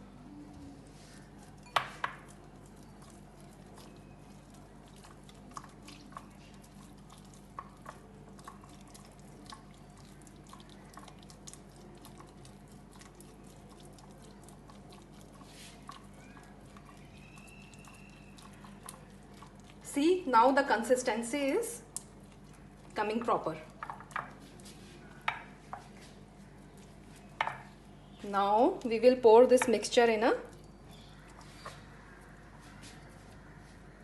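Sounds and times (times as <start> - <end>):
batter squelching: 0.3 - 34.0.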